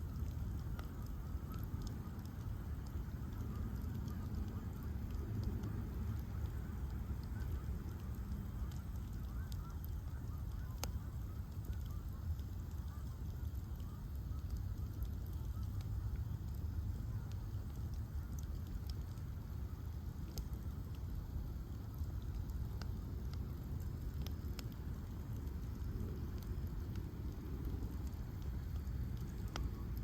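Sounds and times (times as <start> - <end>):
bonfire burning: 0.0 - 30.0
fire crackling and popping: 0.0 - 30.0.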